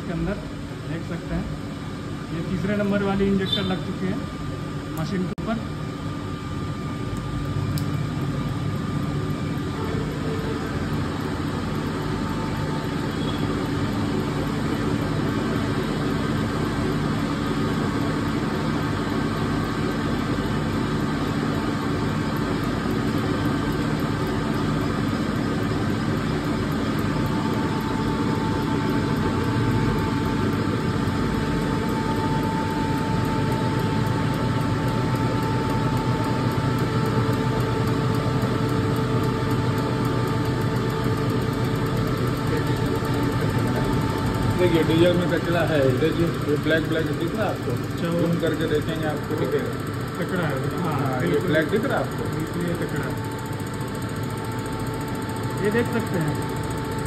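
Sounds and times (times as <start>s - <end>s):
high steady whine: 0.0s - 57.0s
test bench motor hum: 0.0s - 57.0s.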